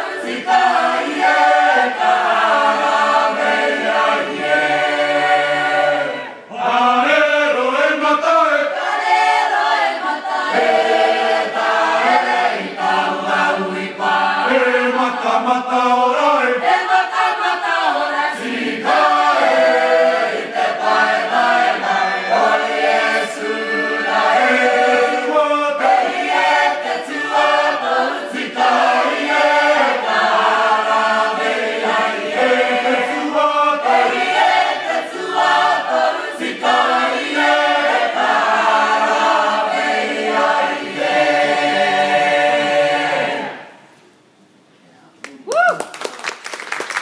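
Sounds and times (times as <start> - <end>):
group singing a hymn unaccompanied: 0.0 - 43.9.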